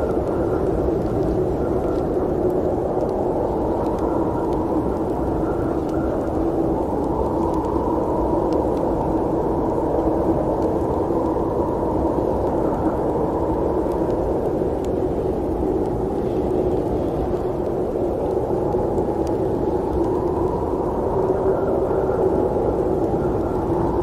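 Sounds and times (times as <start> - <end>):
faint ticks: 0.0 - 24.0
snowstorm wind: 0.0 - 24.0.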